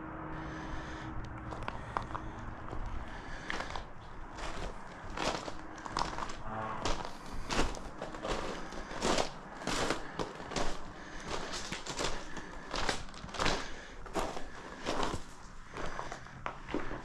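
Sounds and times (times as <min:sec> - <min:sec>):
footsteps on dry trail: 0:00.4 - 0:17.0.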